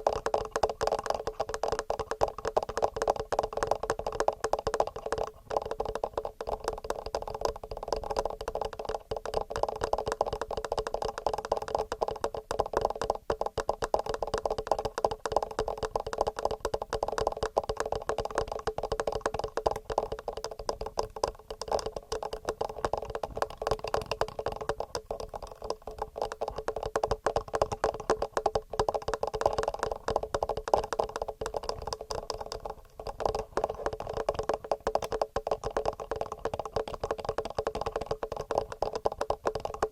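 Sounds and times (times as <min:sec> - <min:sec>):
fingernails tapping on microphone: 0:00.0 - 0:39.9.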